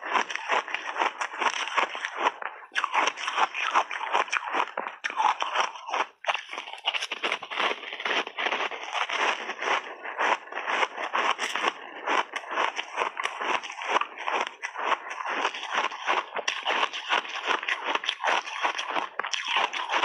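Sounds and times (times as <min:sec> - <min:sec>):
chewing and crunching ice: 0:00.0 - 0:20.0.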